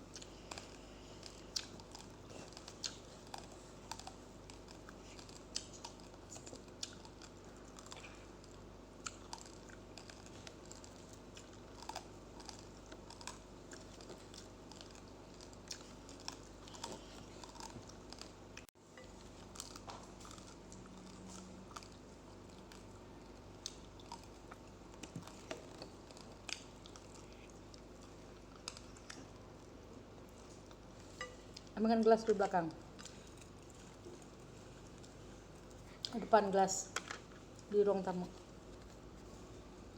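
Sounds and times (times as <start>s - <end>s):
chewing uncooked rice: 0.0s - 36.3s, 36.9s - 39.9s
faint steady hum: 0.0s - 39.9s.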